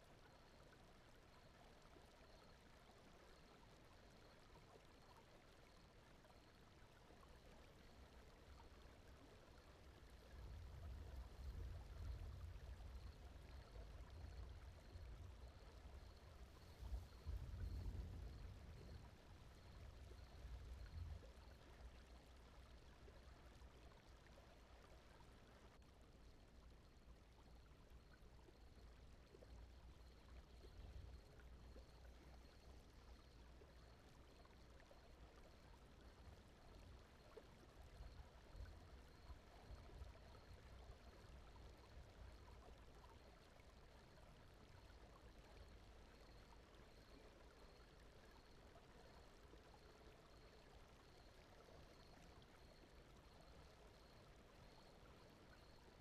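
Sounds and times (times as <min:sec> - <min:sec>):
faint brown noise: 0:00.0 - 0:56.0.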